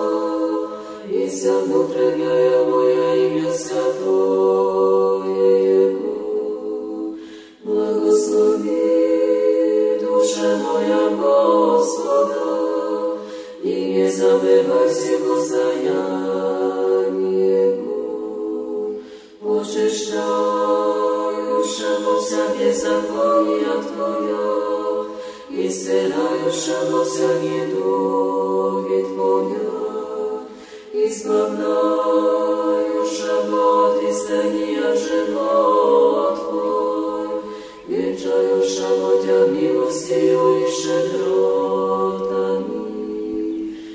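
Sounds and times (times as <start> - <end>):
choir singing chant: 0.0 - 43.9.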